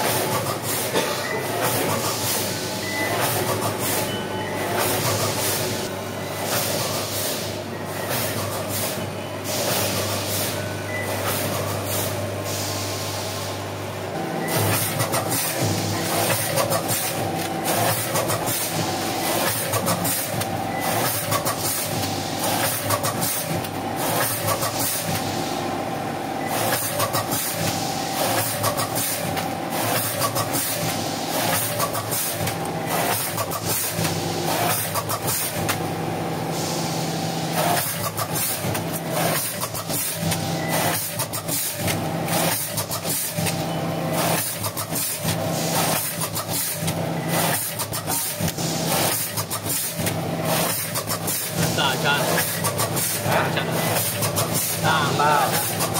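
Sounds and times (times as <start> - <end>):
packing machine hum: 0.0 - 55.9.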